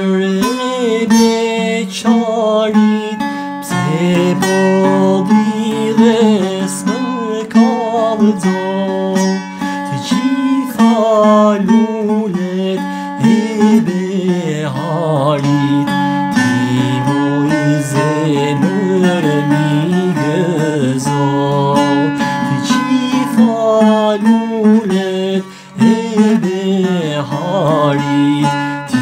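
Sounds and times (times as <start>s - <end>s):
lute strumming: 0.0s - 29.0s
man singing folk song: 0.0s - 29.0s.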